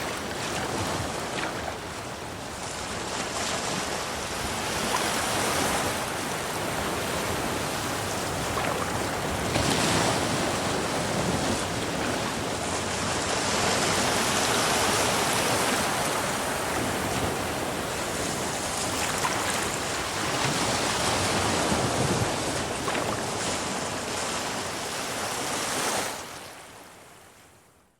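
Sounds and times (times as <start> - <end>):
ocean waves breaking: 0.0 - 26.8.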